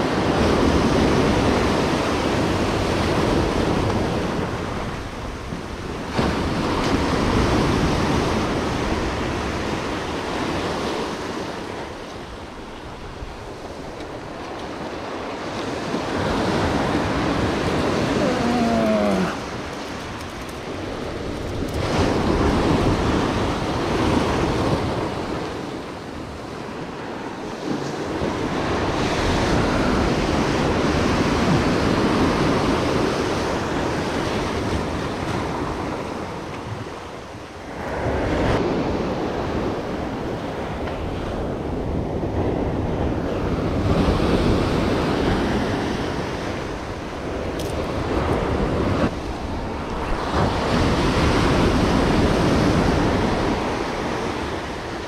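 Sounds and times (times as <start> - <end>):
ocean surf breaking: 0.0 - 55.0
wind buffeting microphone: 0.0 - 55.0.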